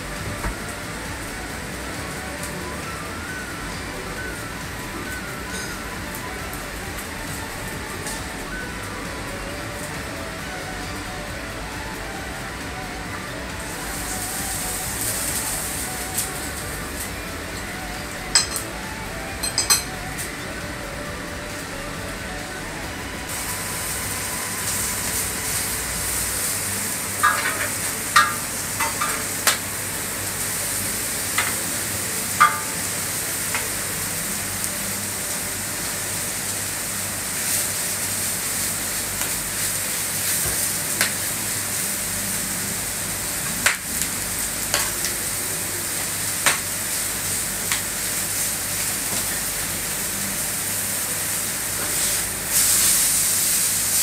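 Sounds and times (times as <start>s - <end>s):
steaks sizzling on a griddle: 0.0s - 22.5s, 23.3s - 54.0s.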